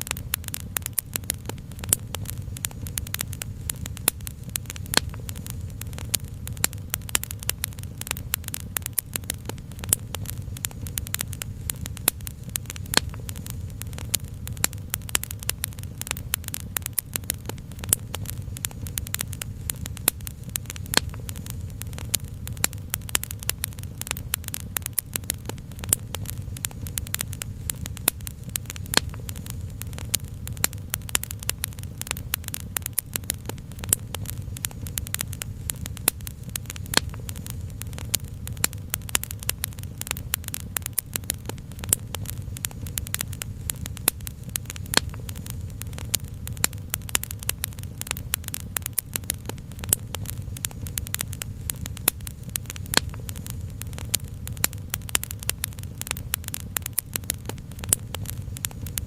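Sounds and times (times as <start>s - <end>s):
steady low rumble: 0.0s - 59.0s
wood fire crackling: 0.0s - 59.0s.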